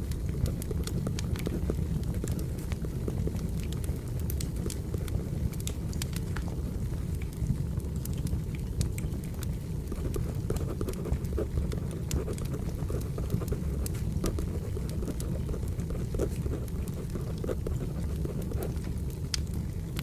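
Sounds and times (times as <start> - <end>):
crackling wood fire: 0.0 - 20.0.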